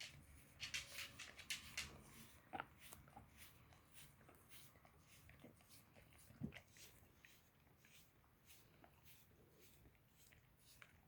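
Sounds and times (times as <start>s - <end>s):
dog licking: 0.8s - 11.0s.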